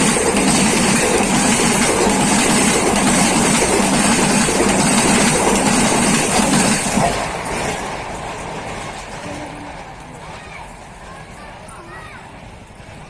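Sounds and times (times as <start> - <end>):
train passing at speed: 0.0 - 13.0
wheel and rail noise: 0.0 - 13.0.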